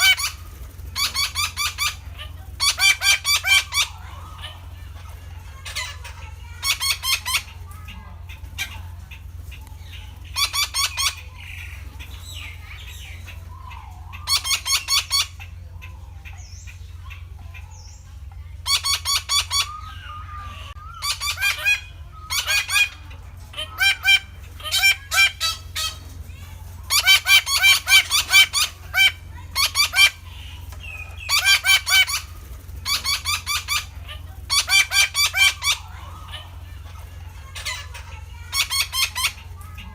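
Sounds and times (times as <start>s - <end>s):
parakeets calling harshly: 0.0s - 39.9s
steady low hum: 0.0s - 39.9s.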